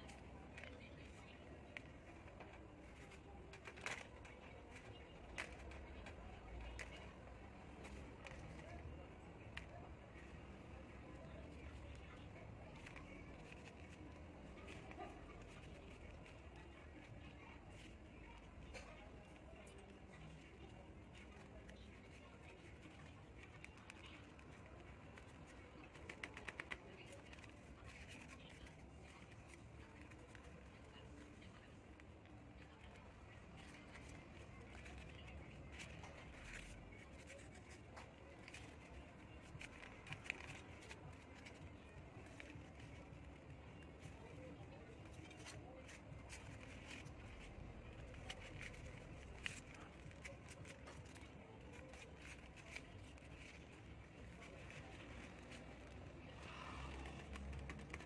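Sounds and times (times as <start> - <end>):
paper rustling and crinkling: 0.0 - 58.0.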